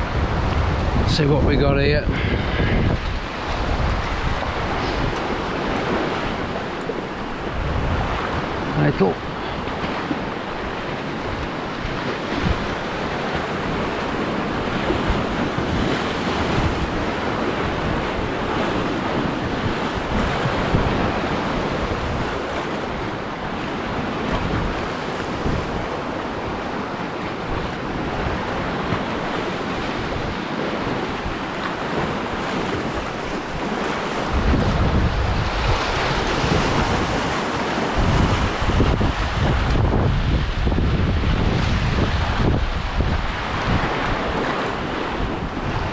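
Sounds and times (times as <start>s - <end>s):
sea waves washing against rocks: 0.0s - 45.9s
wind buffeting microphone: 0.0s - 45.9s.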